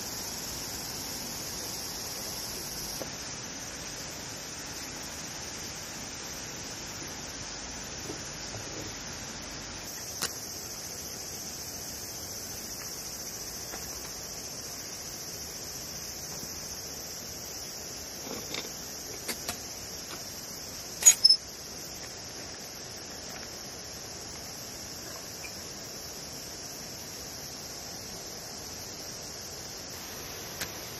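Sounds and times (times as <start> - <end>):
insects chorus: 0.0 - 30.9.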